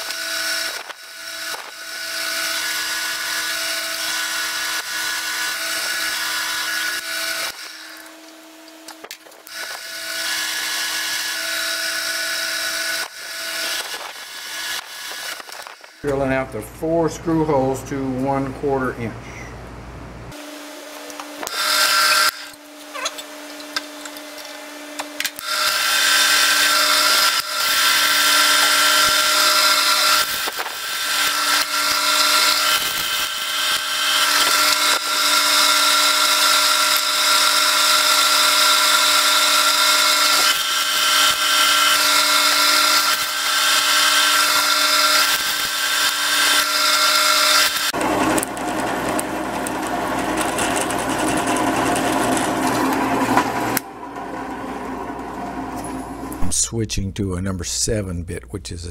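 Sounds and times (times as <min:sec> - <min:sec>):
drill bit cutting steel: 0:00.0 - 0:08.3, 0:08.9 - 0:16.0, 0:21.1 - 0:53.9
drill press motor hum: 0:00.0 - 0:16.2, 0:20.3 - 0:56.5.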